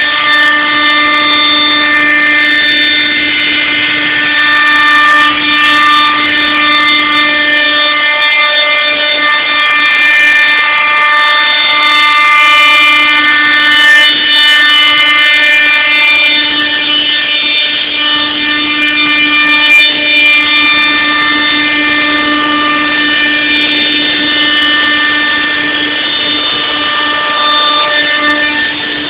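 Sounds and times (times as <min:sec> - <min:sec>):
cnc machine whine: 0:00.0 - 0:29.0.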